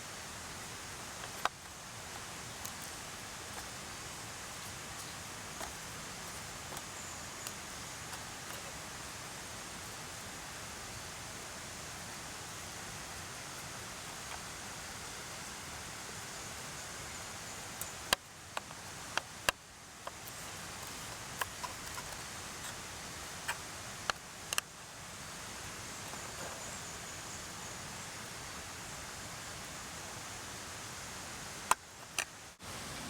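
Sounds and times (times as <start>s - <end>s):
mountain stream rushing: 0.0s - 33.0s.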